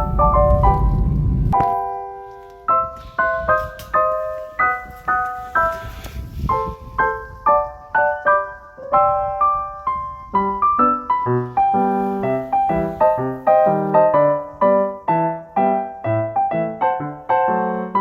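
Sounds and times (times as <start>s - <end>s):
piano bass notes: 0.0s - 18.0s
piano melody: 0.0s - 18.0s.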